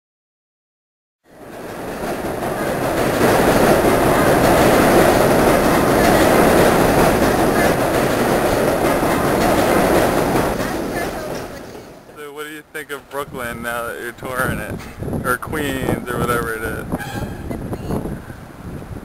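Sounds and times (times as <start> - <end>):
rumbling street noise: 1.3 - 19.0.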